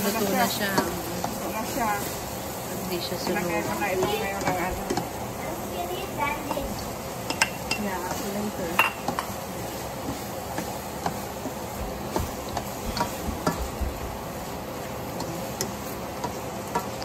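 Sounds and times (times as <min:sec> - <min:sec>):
light sizzle: 0:00.0 - 0:17.0
spatula clacking: 0:00.0 - 0:17.0.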